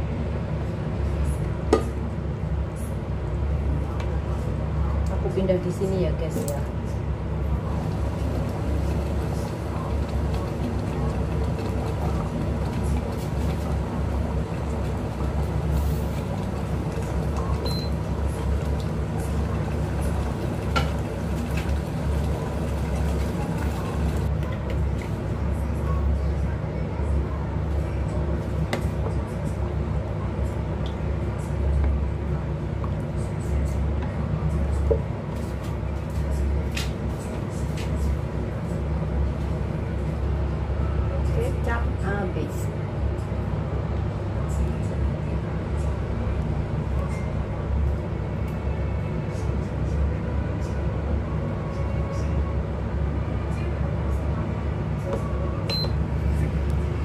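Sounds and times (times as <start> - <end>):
kitchen appliance humming: 3.1 - 37.6, 38.3 - 57.0.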